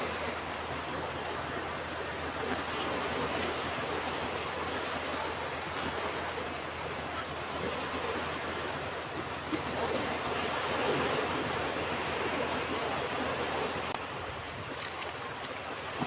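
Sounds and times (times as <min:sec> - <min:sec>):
ocean waves on a beach: 0:00.0 - 0:16.0.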